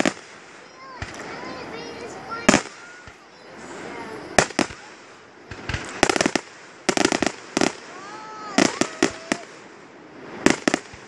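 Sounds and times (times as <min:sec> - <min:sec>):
fireworks banging and crackling: 0:00.0 - 0:11.0.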